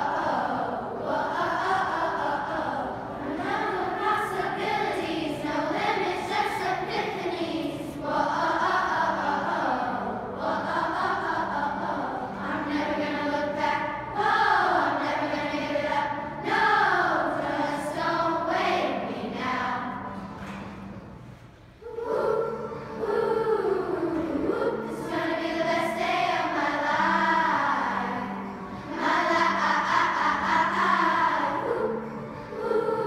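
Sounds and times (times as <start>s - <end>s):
children's choir singing: 0.0s - 21.2s, 21.8s - 33.0s.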